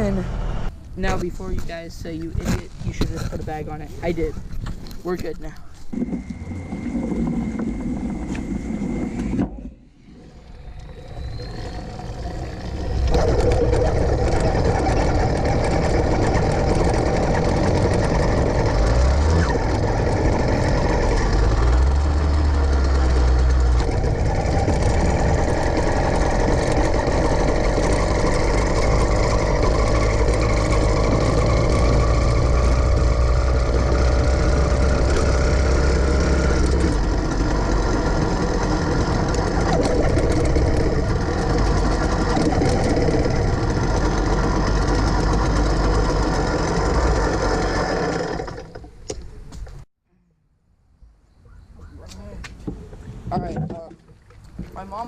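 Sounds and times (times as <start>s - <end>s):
small bicycle engine running: 1.4s - 49.3s.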